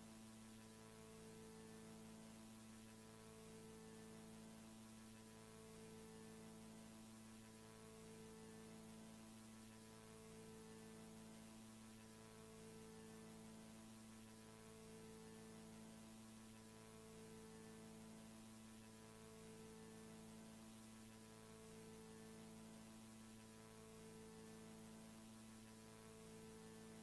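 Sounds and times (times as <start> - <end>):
faint electronic hum: 0.0 - 27.0.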